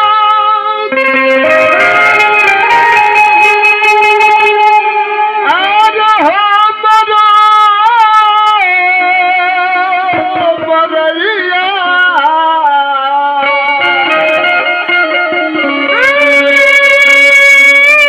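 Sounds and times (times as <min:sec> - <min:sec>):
folk song ensemble music: 0:00.0 - 0:18.0.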